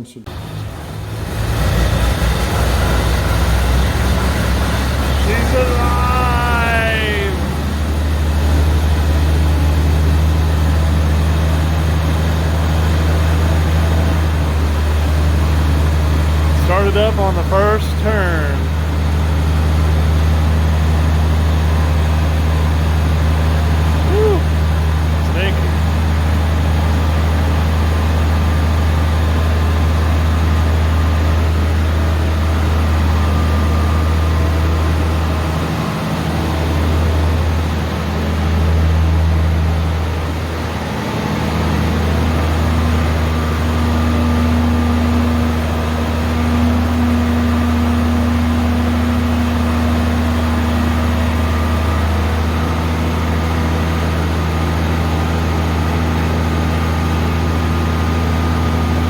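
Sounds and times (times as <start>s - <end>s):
harvester engine idling: 0.2s - 59.0s.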